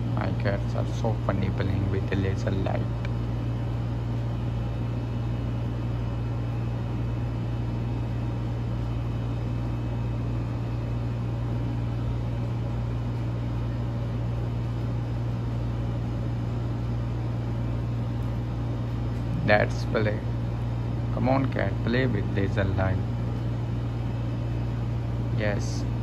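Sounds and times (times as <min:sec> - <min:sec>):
low machine hum with hiss: 0:00.0 - 0:26.0.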